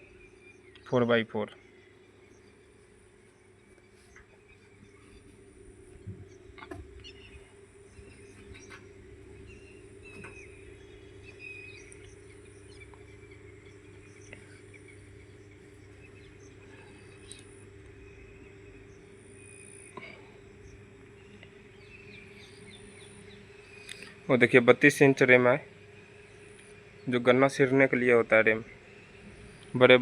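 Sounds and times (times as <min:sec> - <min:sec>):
birds chirping: 0:00.0 - 0:30.0
steady low hum: 0:00.0 - 0:30.0.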